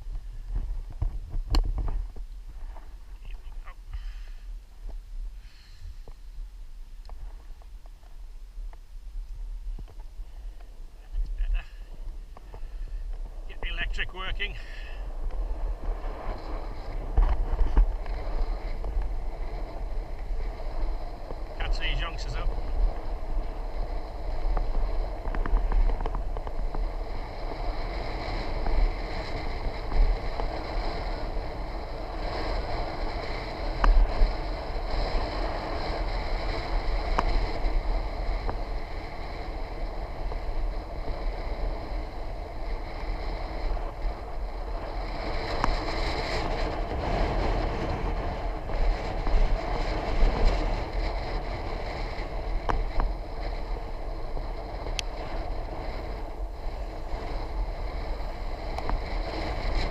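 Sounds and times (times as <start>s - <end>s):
bicycle road noise: 0.0s - 59.9s
faint steady high whine: 0.0s - 59.9s
wind buffeting the microphone: 0.0s - 59.9s.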